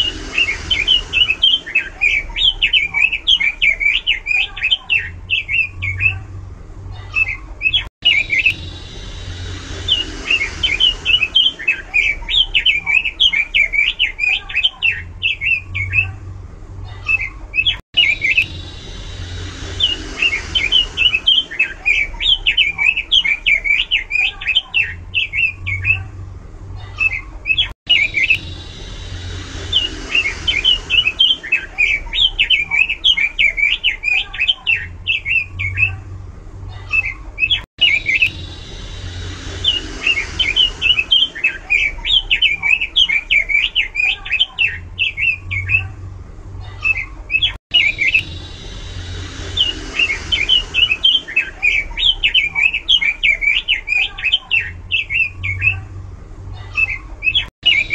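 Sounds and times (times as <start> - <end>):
bird singing rapid warbling song: 0.0 - 6.3, 7.0 - 16.2, 17.0 - 26.1, 27.0 - 36.0, 36.8 - 46.0, 46.8 - 55.9, 56.6 - 57.9.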